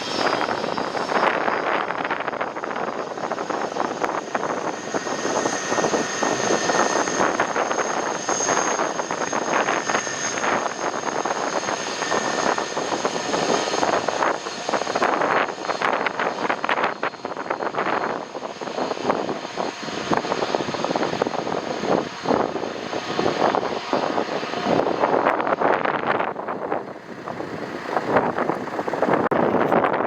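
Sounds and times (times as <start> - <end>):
jet engines rushing: 0.0 - 30.0.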